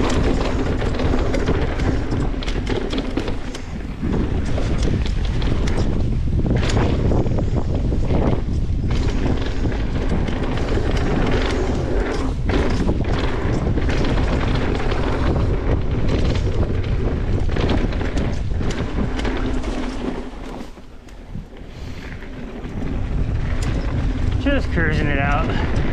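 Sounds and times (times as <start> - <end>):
bike knocks and rattles: 0.0 - 25.9
bike tyres rolling on dirt: 0.0 - 25.9
wind buffeting microphone: 0.0 - 25.9.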